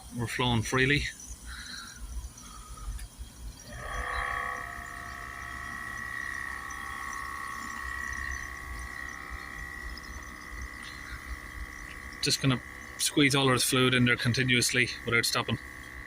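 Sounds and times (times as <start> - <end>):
compressed air spray gun hissing: 1.1 - 16.0.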